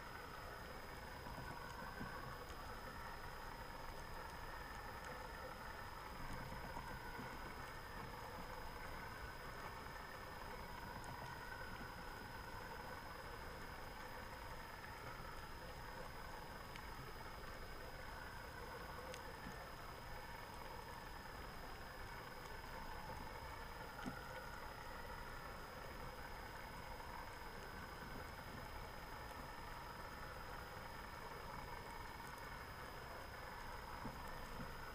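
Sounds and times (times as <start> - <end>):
faint ticks: 0.0 - 34.9.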